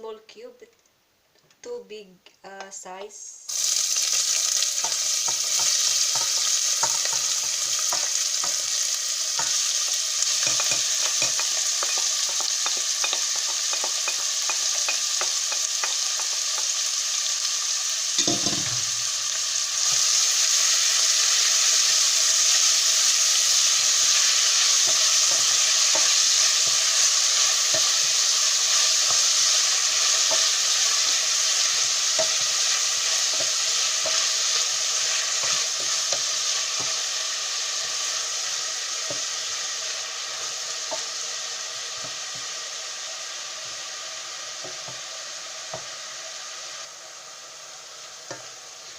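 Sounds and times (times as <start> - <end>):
onions sizzling in oil: 3.5 - 48.9.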